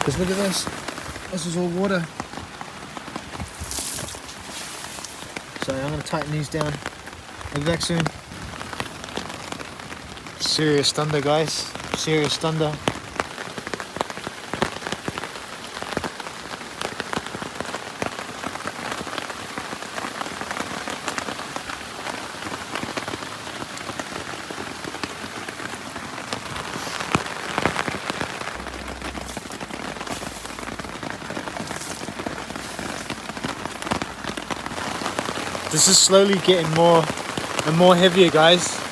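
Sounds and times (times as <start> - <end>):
heavy rain on a tarp: 0.0 - 38.9.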